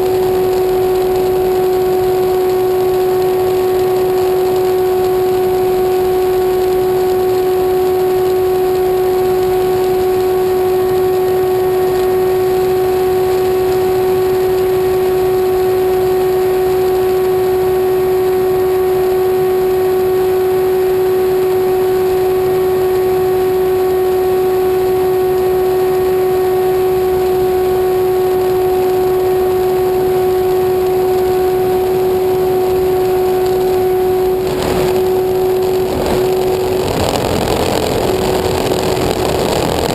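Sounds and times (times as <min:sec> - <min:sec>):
motor droning: 0:00.0 - 0:39.9.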